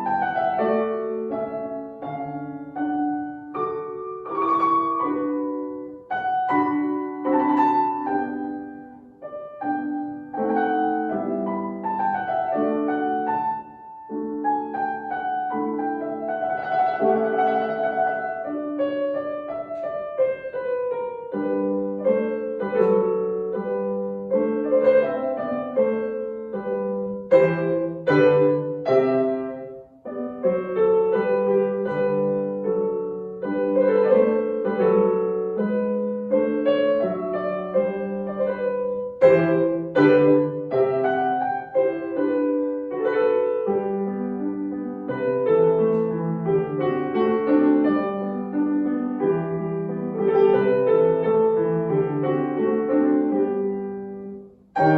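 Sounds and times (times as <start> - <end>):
solo piano classical piece: 0.0 - 54.9.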